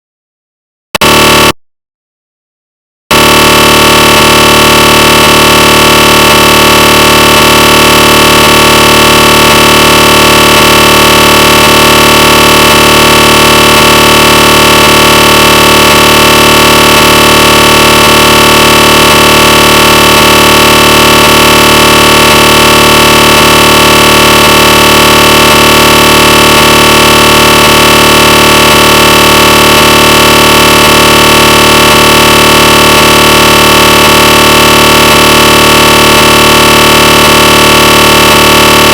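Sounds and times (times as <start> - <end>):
loud electronic drone: 1.0 - 1.5, 3.1 - 38.9.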